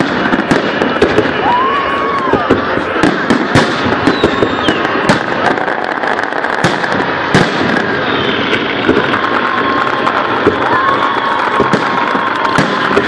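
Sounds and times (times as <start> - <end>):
fireworks crackling: 0.0 - 13.0
loud firework cracks: 0.0 - 13.0.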